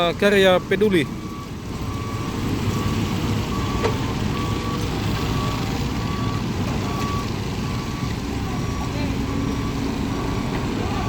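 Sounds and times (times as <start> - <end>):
heavy vehicle engine running: 0.0 - 11.0
reversing alarm beeps: 0.0 - 11.0.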